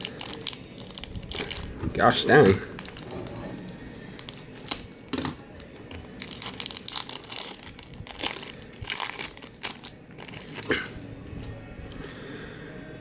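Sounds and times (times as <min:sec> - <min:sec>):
plastic wrapper crinkling: 0:00.0 - 0:11.6.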